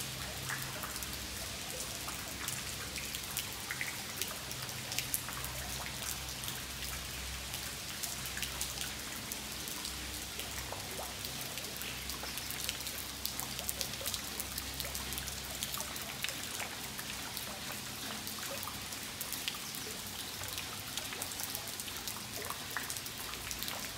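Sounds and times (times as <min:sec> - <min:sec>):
rain on stone and tiles: 0:00.0 - 0:23.9.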